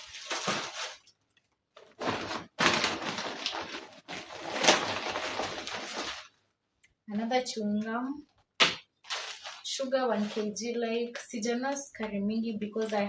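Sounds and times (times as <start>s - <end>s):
plastic bags rustling and crinkling: 0.0s - 6.5s, 9.0s - 13.0s.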